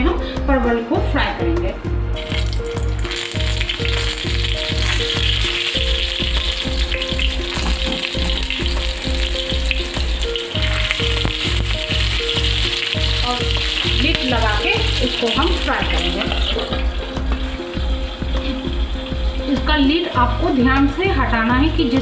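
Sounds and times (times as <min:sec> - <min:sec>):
background music with beat: 0:01.4 - 0:22.0
vegetables sizzling in oil: 0:02.2 - 0:21.8.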